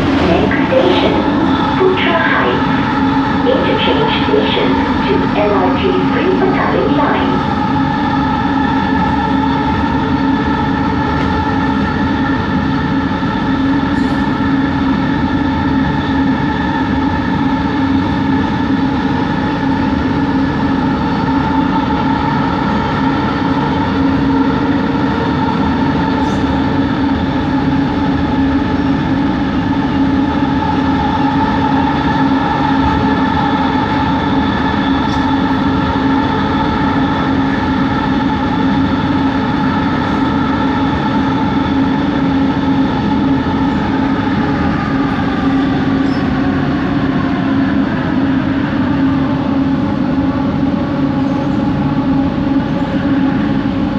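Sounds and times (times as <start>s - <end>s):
train rumble: 0.0s - 53.9s.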